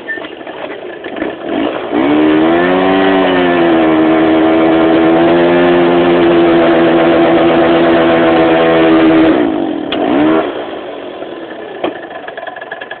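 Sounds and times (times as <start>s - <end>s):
scooter engine revving and idling: 0.0s - 13.0s.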